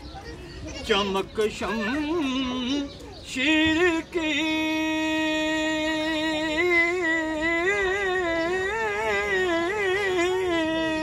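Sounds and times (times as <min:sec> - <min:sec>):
man singing unaccompanied: 0:00.8 - 0:11.0.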